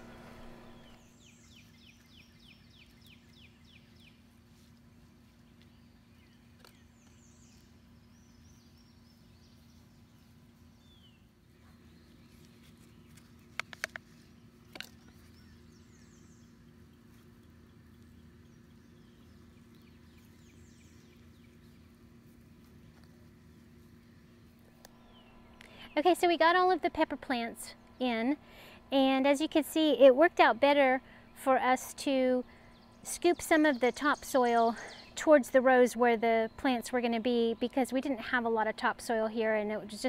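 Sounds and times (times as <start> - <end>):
songbird singing: 0.0 - 40.0
steady low hum: 0.0 - 40.0.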